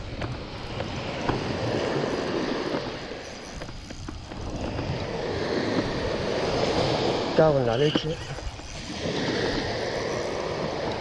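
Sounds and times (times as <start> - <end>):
surf washing up beach: 0.0 - 11.0
wind on microphone: 0.0 - 11.0
fishing reel gears whirring: 0.4 - 11.0.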